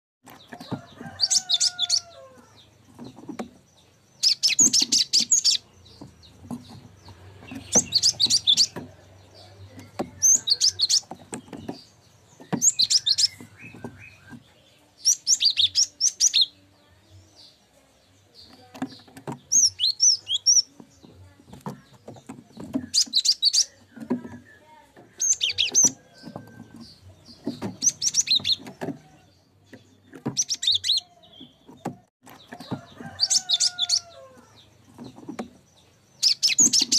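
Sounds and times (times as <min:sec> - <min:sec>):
bird chirping high-pitched: 0:03.8 - 0:16.7, 0:18.3 - 0:21.2, 0:21.8 - 0:36.9.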